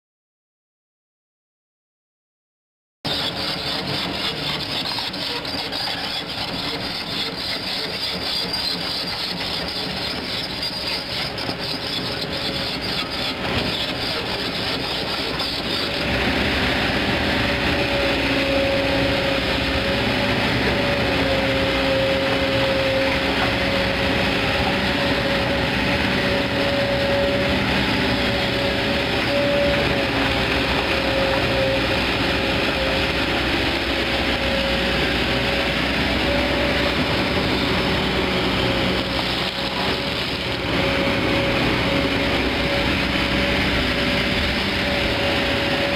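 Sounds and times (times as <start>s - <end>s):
excavator diesel engine: 3.1s - 45.9s.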